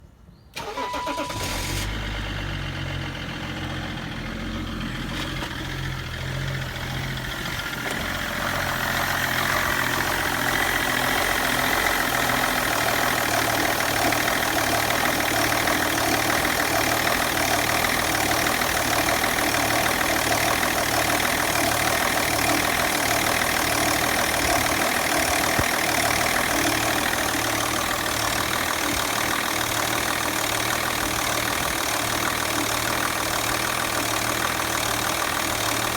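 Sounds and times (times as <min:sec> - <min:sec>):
diesel engine idling with knock: 0:01.4 - 0:35.9.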